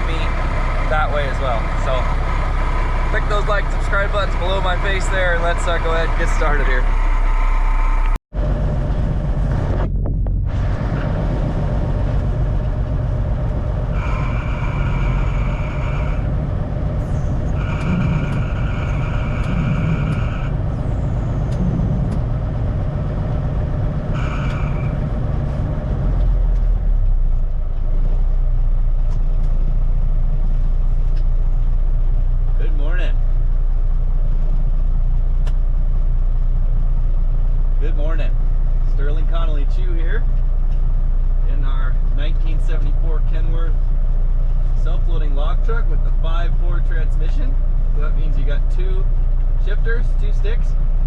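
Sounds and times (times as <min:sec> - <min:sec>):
diesel truck engine running: 0:00.0 - 0:51.0.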